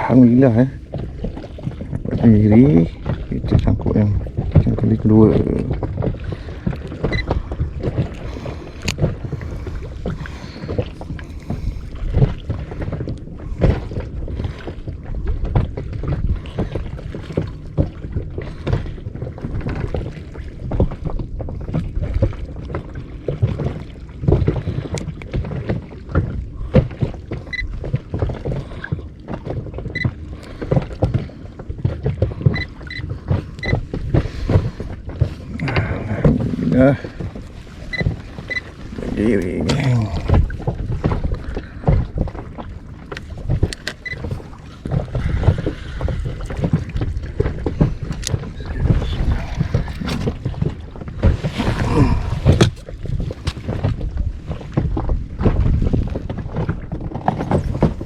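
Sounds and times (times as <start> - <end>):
water slapping against boat hull: 0.0 - 58.0
wind on microphone: 0.0 - 58.0.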